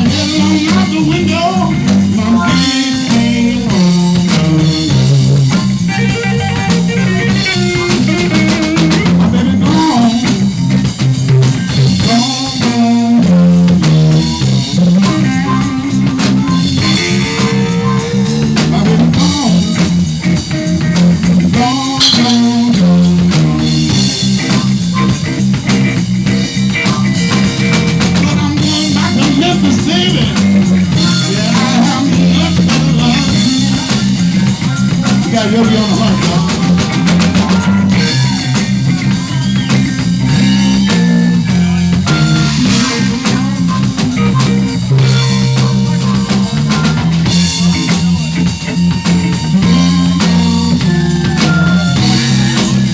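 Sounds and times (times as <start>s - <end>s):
bass guitar: 0.0s - 52.9s
drum kit: 0.0s - 52.9s
electric guitar: 0.0s - 52.9s.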